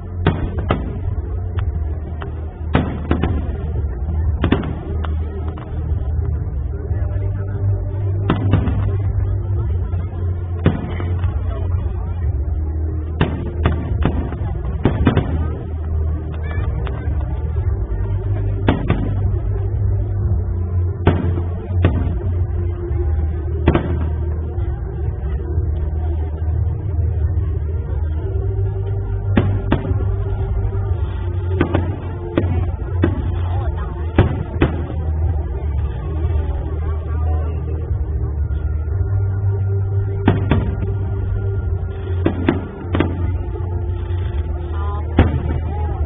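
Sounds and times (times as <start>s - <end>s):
fireworks bursting bangs: 0.0s - 25.4s, 29.0s - 36.7s, 40.0s - 46.0s
loud music with bass: 0.0s - 46.0s
steady low rumble: 0.0s - 46.0s
faint fireworks pops: 0.1s - 20.4s, 21.0s - 28.2s, 28.8s - 36.7s, 37.8s - 46.0s.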